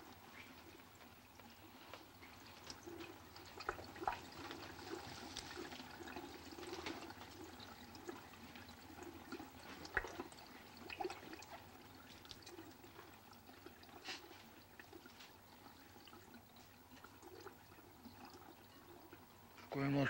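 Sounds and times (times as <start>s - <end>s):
gurgling trickling water: 0.0s - 20.0s
water drips and small splashes: 0.0s - 20.0s.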